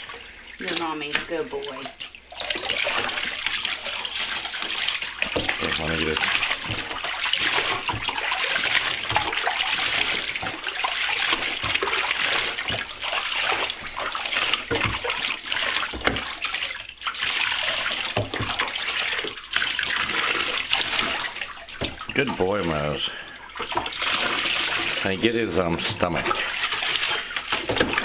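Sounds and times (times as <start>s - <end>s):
water running in a bathtub: 0.0s - 28.0s
water splashing: 0.0s - 28.0s.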